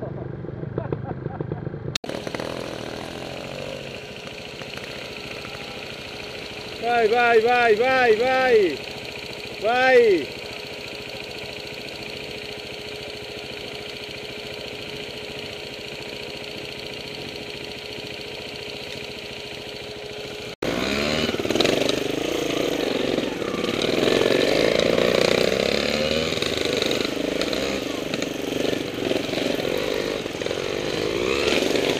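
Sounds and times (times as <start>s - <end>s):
motorcycle engine idling: 0.0s - 31.9s
motorcycle engine revving: 0.0s - 31.9s.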